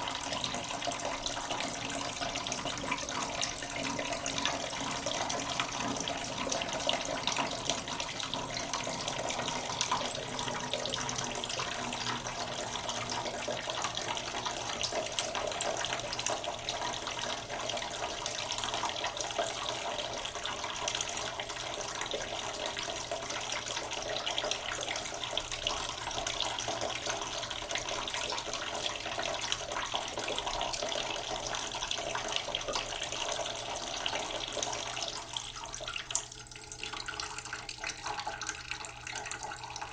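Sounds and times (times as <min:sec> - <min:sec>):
tap water trickling into a pot: 0:00.0 - 0:39.9.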